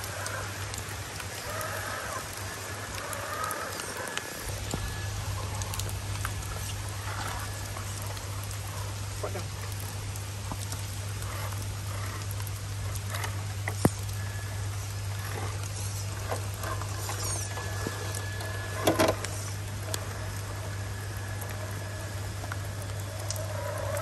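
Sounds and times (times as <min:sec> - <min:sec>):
rain pattering and dripping: 0:00.0 - 0:24.0
steady low hum: 0:00.0 - 0:24.0.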